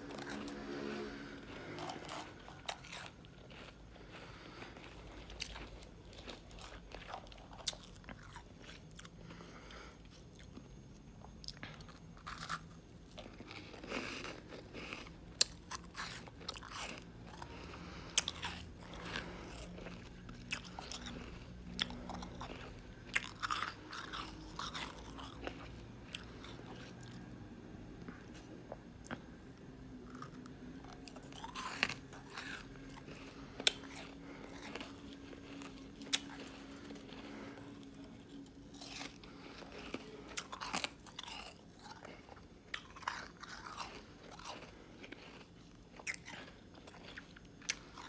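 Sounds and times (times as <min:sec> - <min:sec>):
chewing crunchy shaved ice: 0:00.0 - 0:48.0.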